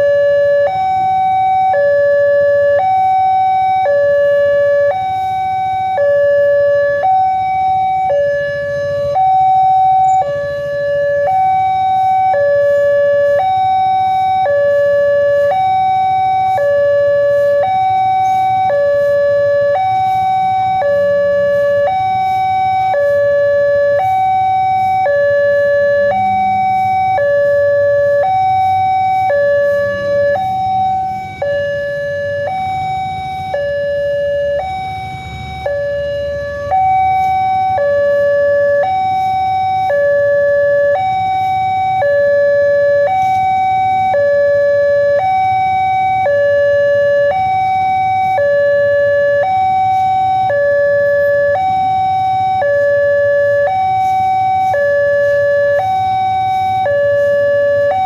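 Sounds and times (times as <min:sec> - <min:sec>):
two-tone level crossing alarm: 0:00.0 - 0:58.0.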